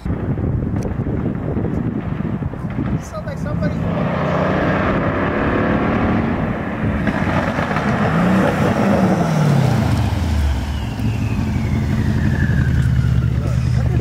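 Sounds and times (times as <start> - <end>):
car engine and exhaust passing by: 1.8 - 14.0.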